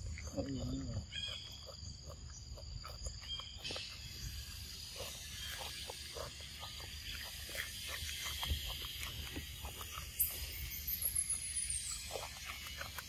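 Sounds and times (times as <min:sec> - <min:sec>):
insects buzzing: 0:00.0 - 0:13.0
monkey chewing cucumber: 0:00.0 - 0:13.0.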